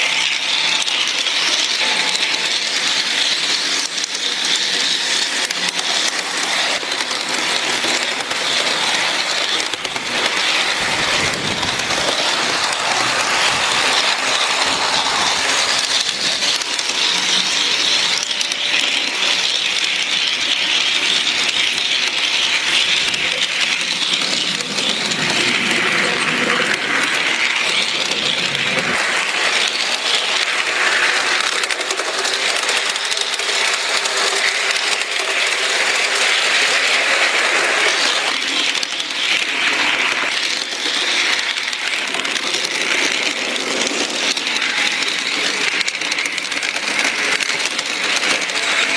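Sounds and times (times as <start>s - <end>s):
model train wheels rattling: 0.0s - 48.9s.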